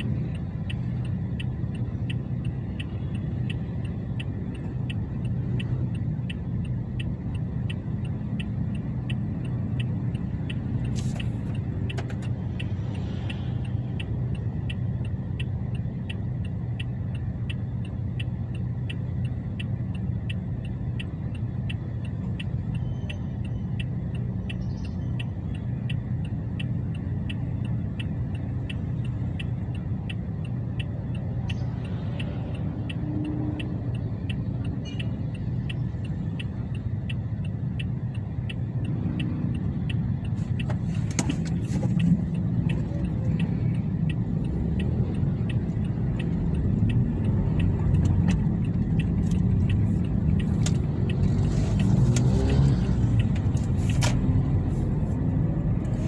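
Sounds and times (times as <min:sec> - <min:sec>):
regular ticking: 0:00.0 - 0:56.0.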